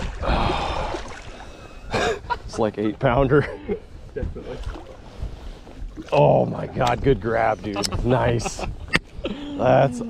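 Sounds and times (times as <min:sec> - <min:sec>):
low wind rumble: 0:00.0 - 0:10.0.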